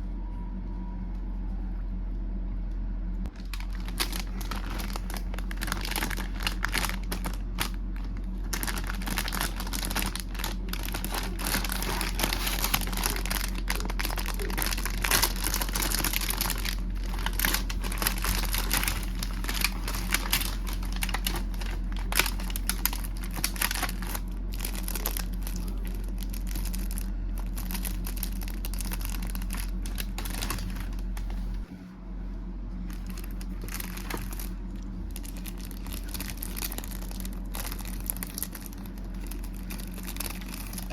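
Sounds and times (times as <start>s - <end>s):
steady low hum: 0.0s - 40.9s
plastic packaging crinkling: 3.3s - 31.7s, 32.9s - 40.9s.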